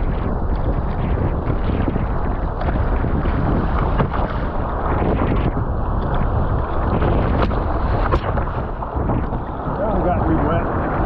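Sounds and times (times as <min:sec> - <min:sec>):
water rushing and splashing: 0:00.0 - 0:11.0
wind buffeting microphone: 0:00.0 - 0:11.0.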